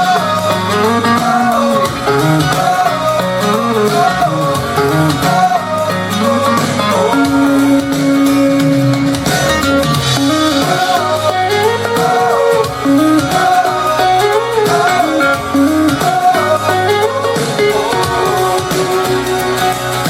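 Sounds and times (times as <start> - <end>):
instrumental pop music with guitar: 0.0 - 20.0.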